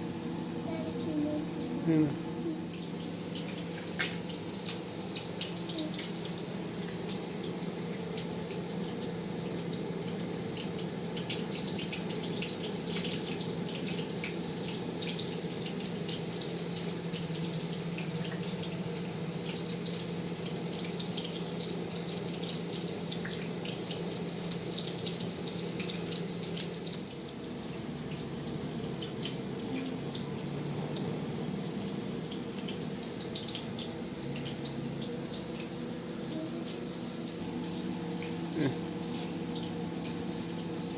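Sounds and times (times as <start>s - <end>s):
crickets chirring: 0.0s - 40.9s
water-like hiss with crackles: 0.4s - 40.9s.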